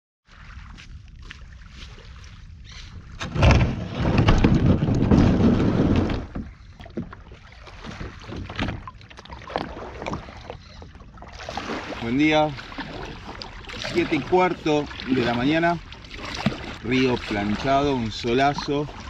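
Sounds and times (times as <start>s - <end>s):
water splashing against hull: 0.3s - 19.0s
kayak hull scraping over sand: 3.2s - 19.0s.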